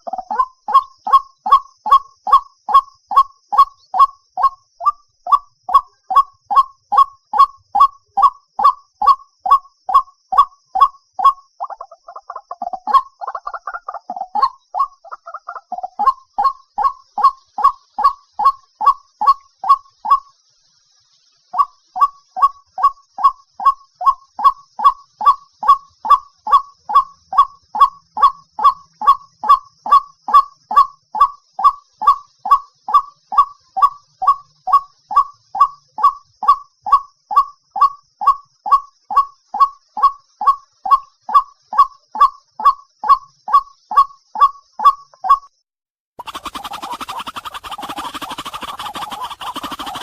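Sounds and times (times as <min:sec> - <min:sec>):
waterhen calling: 0:00.0 - 0:20.3, 0:21.5 - 0:45.4, 0:46.2 - 0:50.0.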